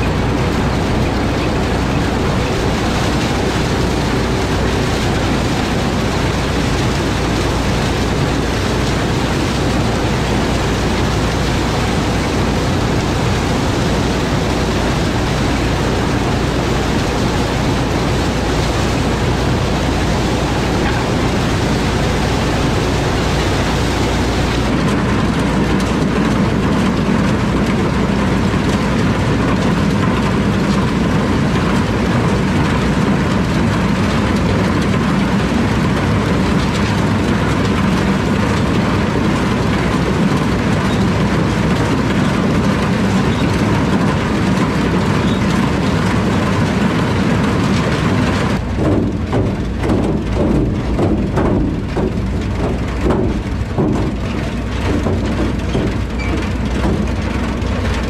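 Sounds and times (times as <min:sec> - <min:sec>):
corn picker mechanical rattle: 0:00.0 - 0:58.0
diesel tractor engine: 0:00.0 - 0:58.0.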